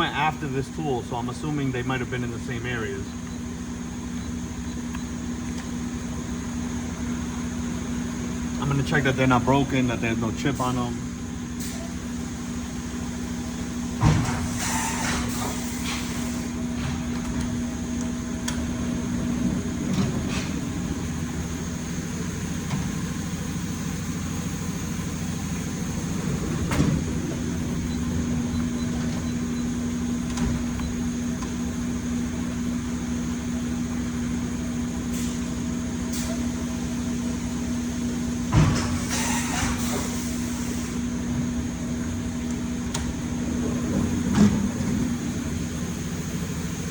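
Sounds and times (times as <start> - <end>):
cnc milling machine humming: 0.0 - 46.9.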